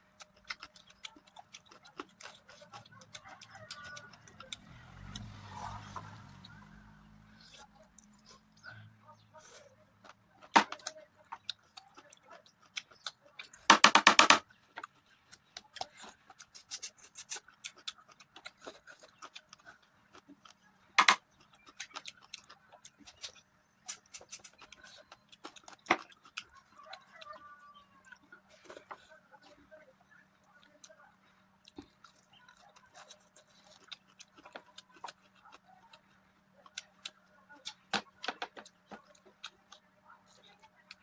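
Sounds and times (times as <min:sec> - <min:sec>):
mouth chewing and smacking: 0:00.0 - 0:13.7, 0:14.5 - 0:41.0.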